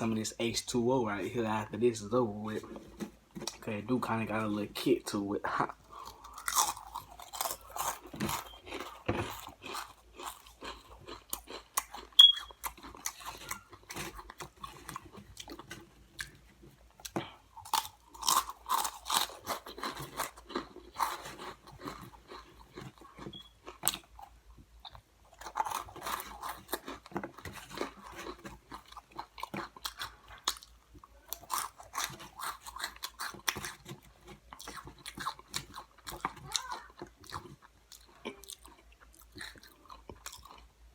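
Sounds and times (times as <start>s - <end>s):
chewing and crunching snacks: 2.5s - 40.9s.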